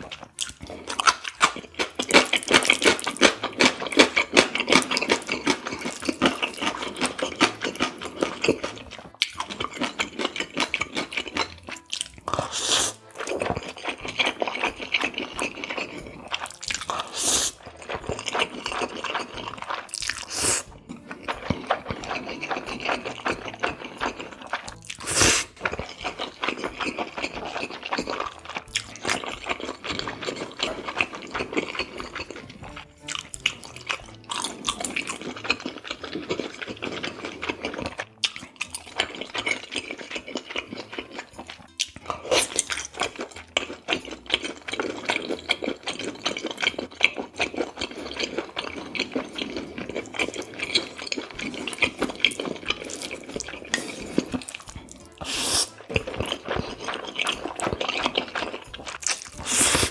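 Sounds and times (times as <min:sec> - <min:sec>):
wet chewing: 0:00.0 - 0:59.9
noodle slurps: 0:00.6 - 0:41.3, 0:42.1 - 0:59.9.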